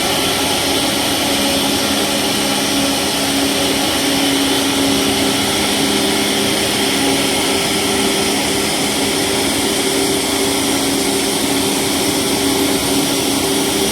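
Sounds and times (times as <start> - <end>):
jet engine cabin whir: 0.0 - 13.9.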